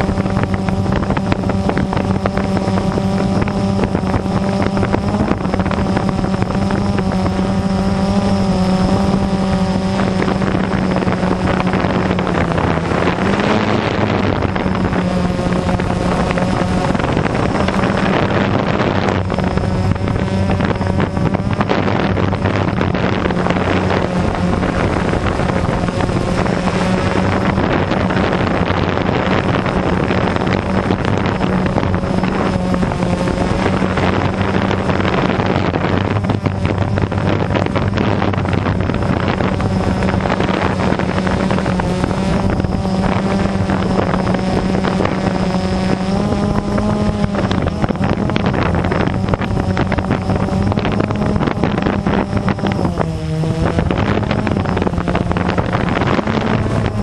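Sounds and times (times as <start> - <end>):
drone propellers humming: 0.0 - 57.0
wind rushing over microphone: 0.0 - 57.0.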